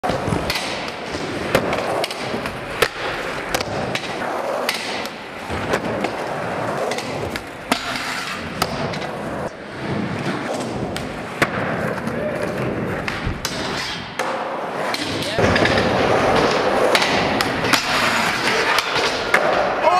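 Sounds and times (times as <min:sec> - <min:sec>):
skateboard wheels rolling on concrete: 0:00.0 - 0:19.9.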